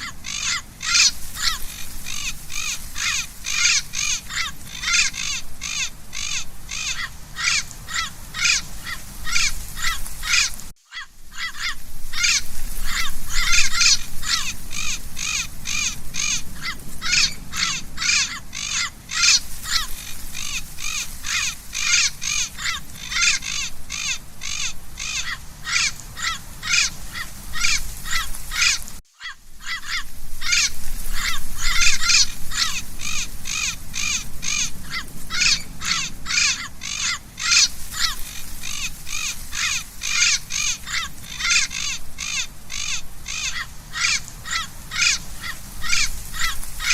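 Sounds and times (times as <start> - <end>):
parrot squawking: 0.0 - 46.9.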